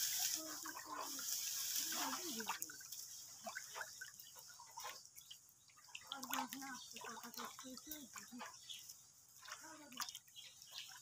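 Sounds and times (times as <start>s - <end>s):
small splashes and drips: 0.0s - 11.0s.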